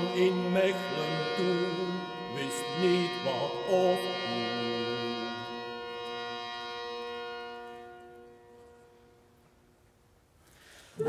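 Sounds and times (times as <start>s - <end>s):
drone chord: 0.0s - 9.2s.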